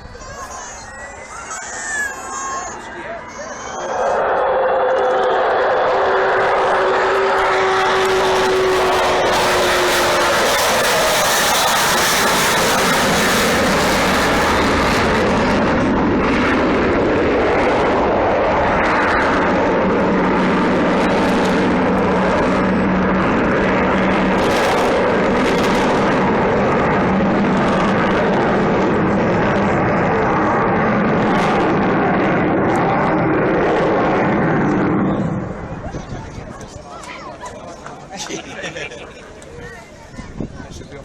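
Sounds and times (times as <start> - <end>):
loud jet roar: 0.9 - 39.1.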